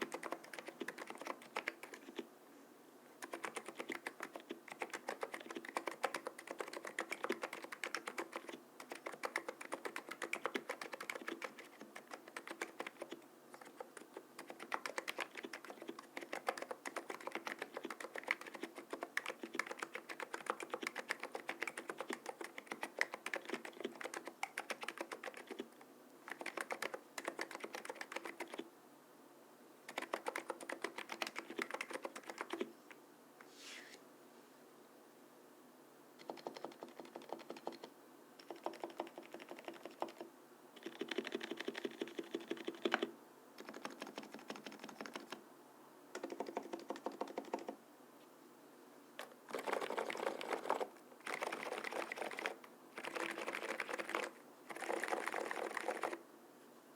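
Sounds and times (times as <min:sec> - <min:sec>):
keyboard typing: 0:00.0 - 0:02.3, 0:03.2 - 0:28.6, 0:29.9 - 0:32.7, 0:36.2 - 0:45.4, 0:46.1 - 0:47.8, 0:49.2 - 0:56.2.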